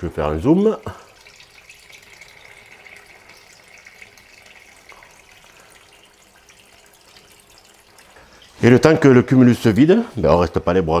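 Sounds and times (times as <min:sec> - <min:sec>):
water rushing from valve: 0:00.0 - 0:09.4.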